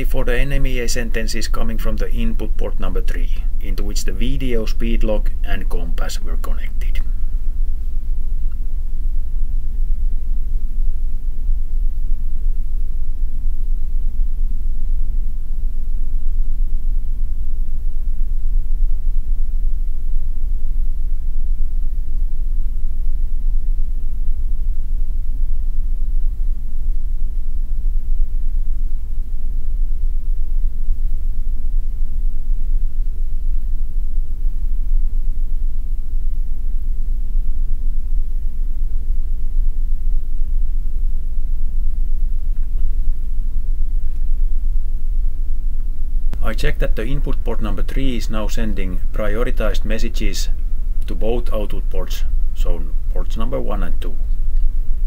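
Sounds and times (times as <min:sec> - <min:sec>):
faint hum: 0:00.0 - 0:55.0
low rumble: 0:00.0 - 0:55.0.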